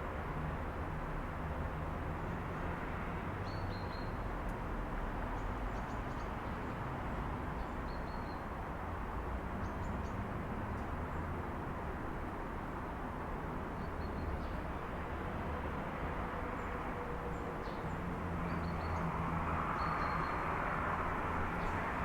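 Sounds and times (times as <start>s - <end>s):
city traffic hum: 0.0s - 22.0s.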